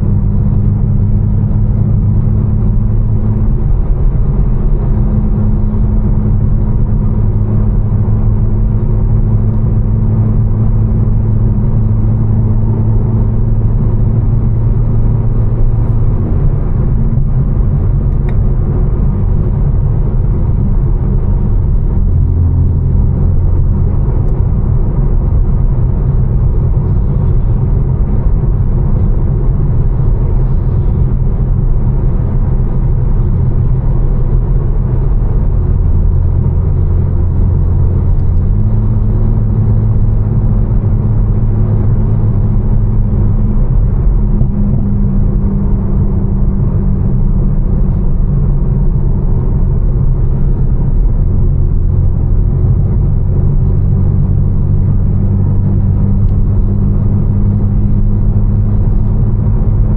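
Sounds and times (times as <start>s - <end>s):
car engine droning: 0.0s - 59.9s
road noise: 0.0s - 59.9s.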